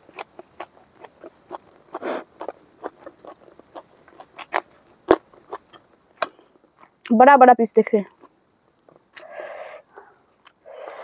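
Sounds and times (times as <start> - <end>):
person chewing food: 0.0 - 7.1, 8.1 - 11.0.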